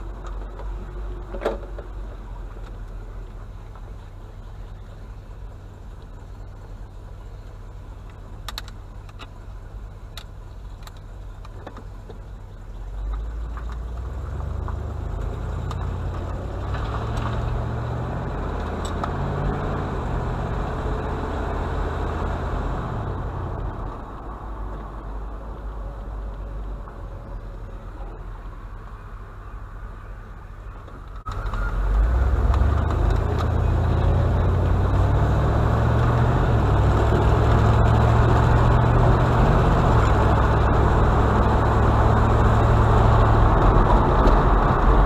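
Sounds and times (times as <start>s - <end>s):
vehicle engine idling and revving: 0.0s - 45.0s.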